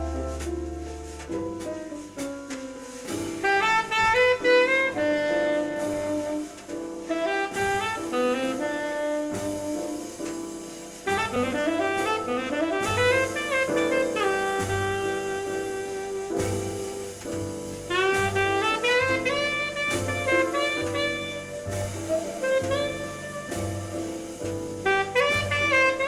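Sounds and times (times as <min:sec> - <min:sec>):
jazz saxophone melody: 0:00.0 - 0:26.0.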